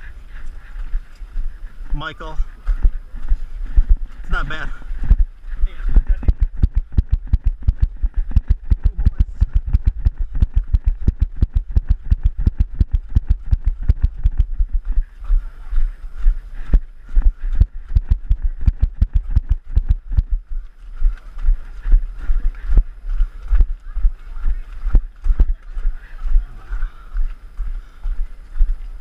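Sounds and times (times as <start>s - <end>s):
footsteps running: 0.0s - 29.0s.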